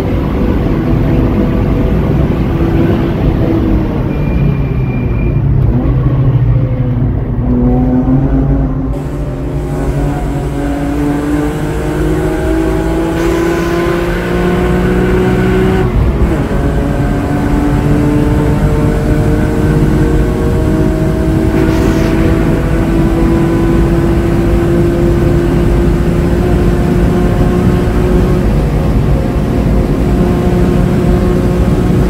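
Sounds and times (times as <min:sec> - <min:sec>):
car engine accelerating hard: 0:00.0 - 0:04.6, 0:05.3 - 0:32.0.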